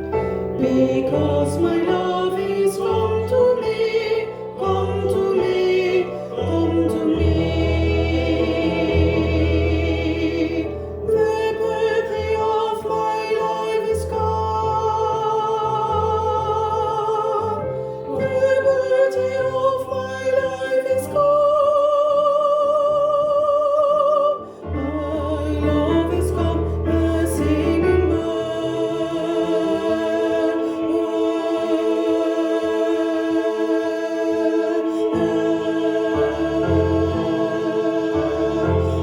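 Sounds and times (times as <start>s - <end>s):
choir singing long held notes: 0.0s - 39.0s.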